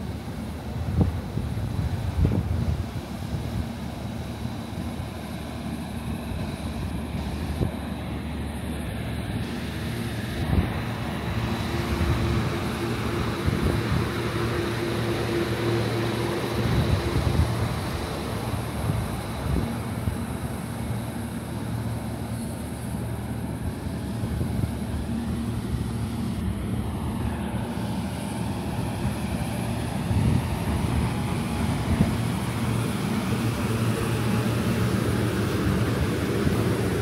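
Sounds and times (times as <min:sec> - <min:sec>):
train mechanical hum: 0:00.0 - 0:37.0.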